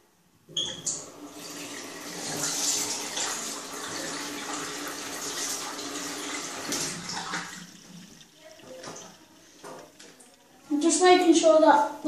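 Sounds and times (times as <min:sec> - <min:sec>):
water running from tap: 0:00.6 - 0:12.0.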